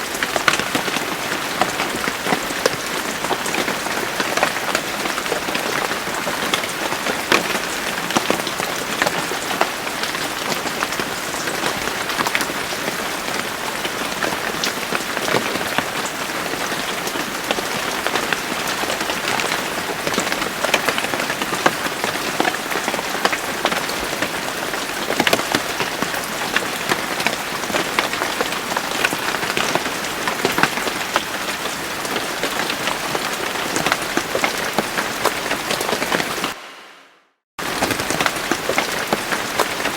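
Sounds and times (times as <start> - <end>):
rain falling: 0.0 - 37.0, 37.6 - 39.9.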